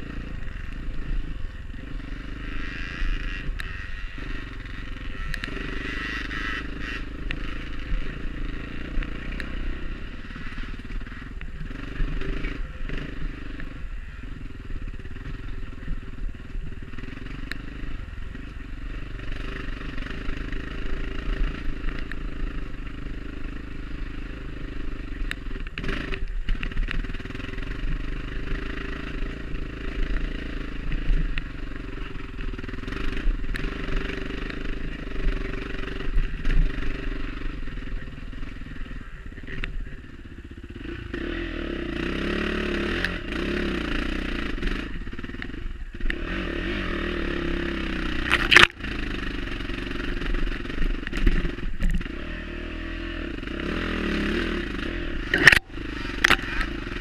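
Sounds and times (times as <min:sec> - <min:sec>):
motorcycle engine under throttle: 0:00.0 - 0:57.0.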